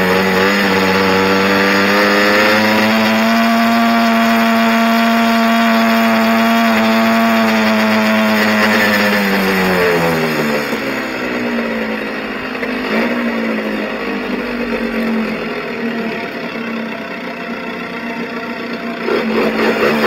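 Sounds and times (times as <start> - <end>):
two-stroke motorbike engine: 0.0 - 20.0.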